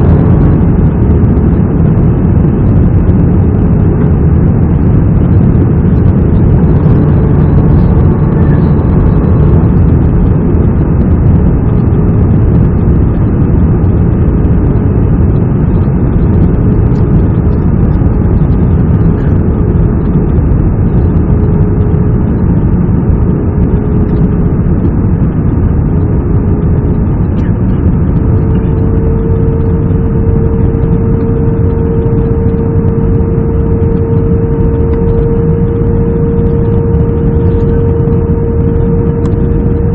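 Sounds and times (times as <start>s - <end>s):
faint whine: 0.0s - 39.9s
jet engines droning: 0.0s - 39.9s
rushing air: 0.0s - 39.9s.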